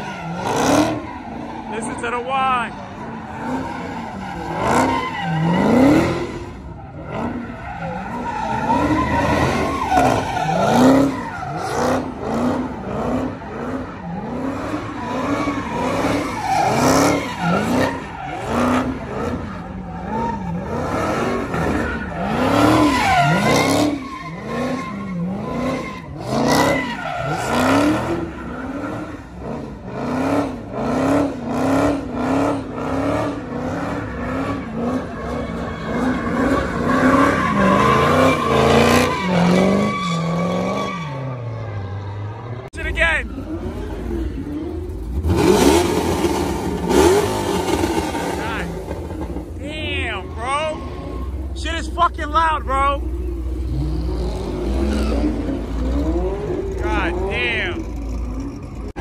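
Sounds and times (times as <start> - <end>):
car engine revving: 0.0 - 59.0
tyres squealing on pavement: 0.0 - 59.0.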